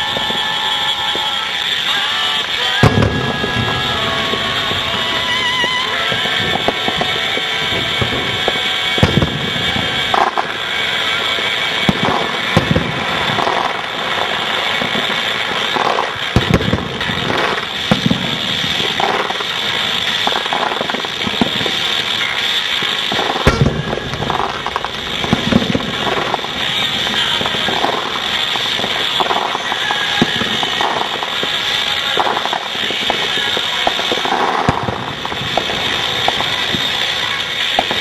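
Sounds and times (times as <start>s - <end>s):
fireworks shells bursting: 0.0s - 38.0s.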